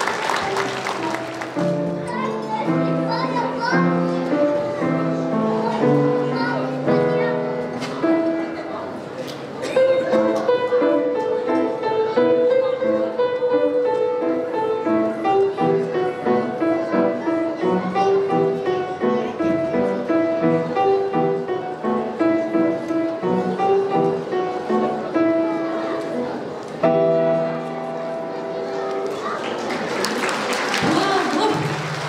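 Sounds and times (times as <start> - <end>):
grand piano playing: 0.0 - 32.0.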